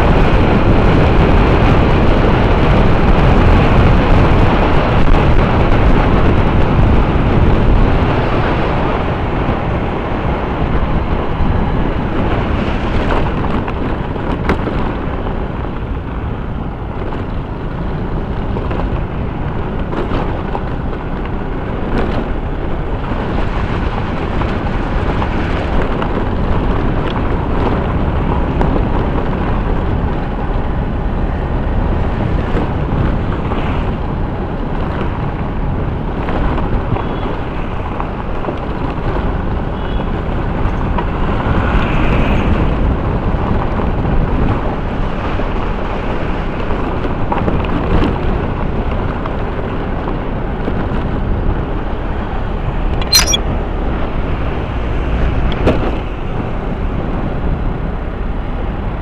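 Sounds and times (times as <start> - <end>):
vehicle road noise: 0.0 - 59.0
wind on microphone: 0.0 - 59.0.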